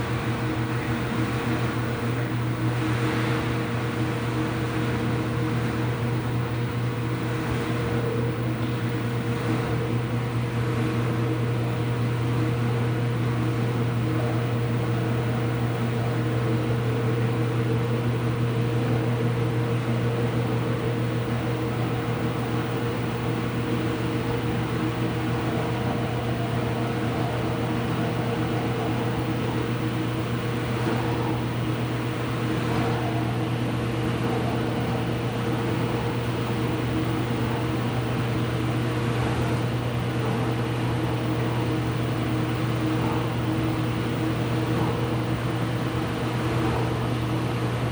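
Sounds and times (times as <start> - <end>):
washing machine humming: 0.0 - 47.9.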